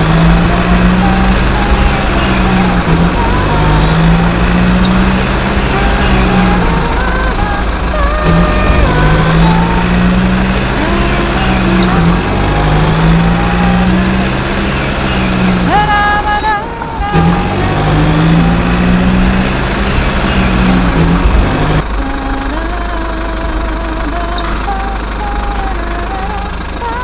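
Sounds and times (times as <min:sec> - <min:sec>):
steady low hum: 0:00.0 - 0:27.0
toy vehicle engine drone: 0:00.0 - 0:27.0.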